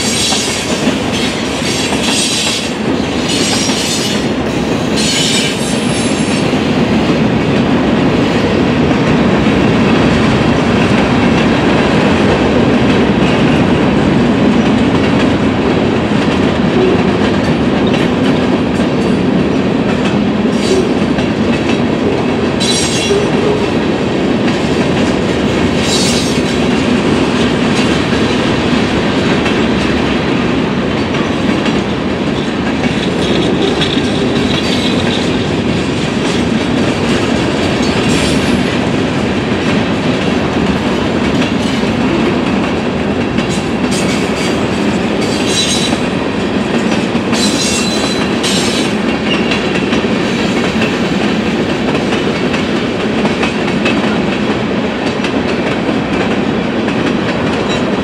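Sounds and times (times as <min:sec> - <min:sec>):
freight train rumble and wheel clatter: 0:00.0 - 0:58.0.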